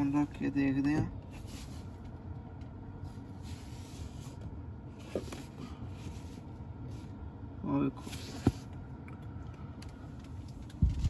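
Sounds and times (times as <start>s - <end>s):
car cabin engine hum: 0.0s - 11.0s.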